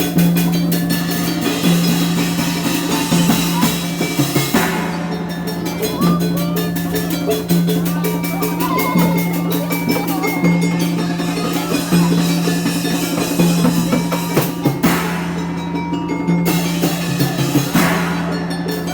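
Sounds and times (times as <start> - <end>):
drums beating: 0.0 - 18.9.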